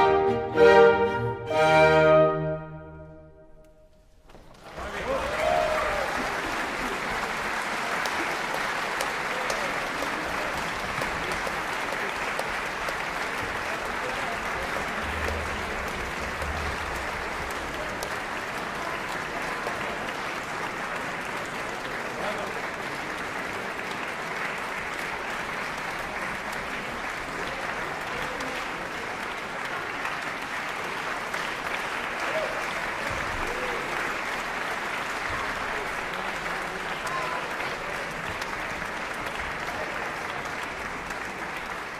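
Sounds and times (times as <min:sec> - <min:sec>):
audience applauding: 0:04.2 - 0:41.9.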